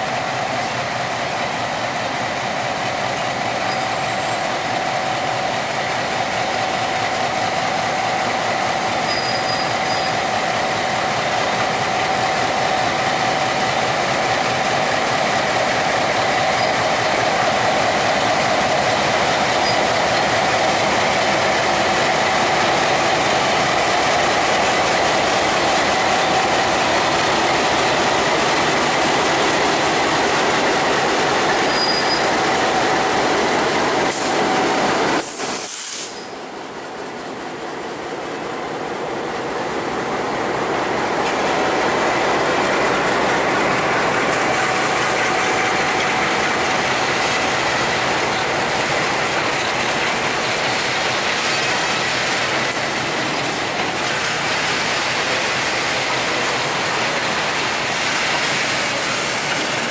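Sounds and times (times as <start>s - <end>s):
diesel locomotive engine drone: 0.0s - 59.9s
train wheels on rails: 0.0s - 59.9s.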